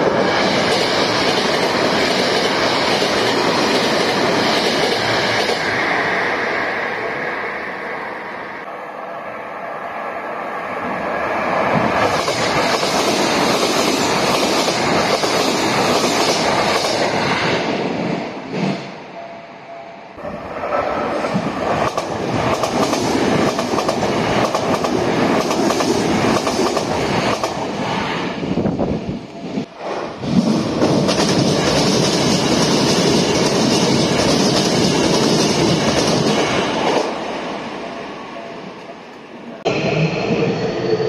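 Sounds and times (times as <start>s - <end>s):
electric train running past: 0.0s - 41.0s.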